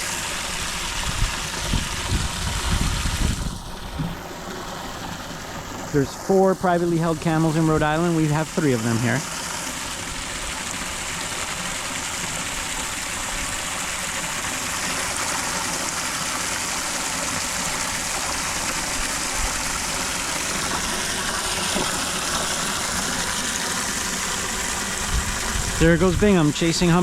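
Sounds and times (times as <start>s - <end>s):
water gushing into metal tank: 0.0s - 27.0s.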